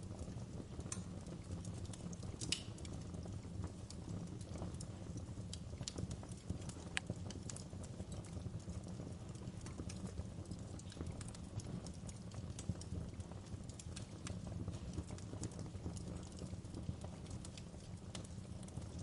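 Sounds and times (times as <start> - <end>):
low rumble of fire: 0.0 - 19.0
wood fire crackling and popping: 0.0 - 19.0.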